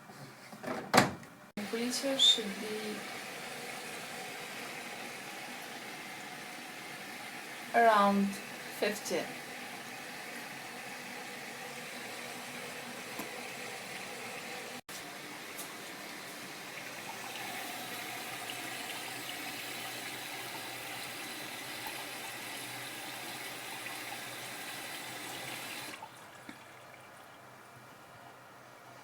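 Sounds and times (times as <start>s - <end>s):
water rushing into washing machine: 1.6s - 29.0s.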